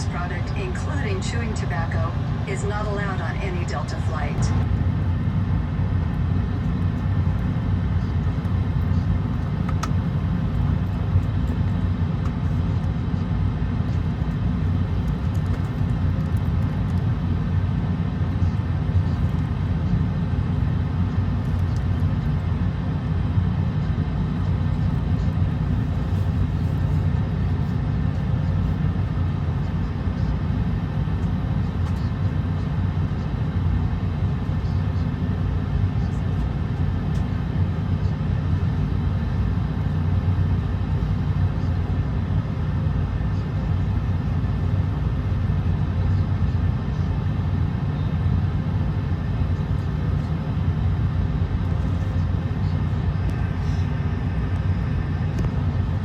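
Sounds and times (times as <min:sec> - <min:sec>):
airliner cabin rumble and hiss: 0:00.0 - 0:56.0.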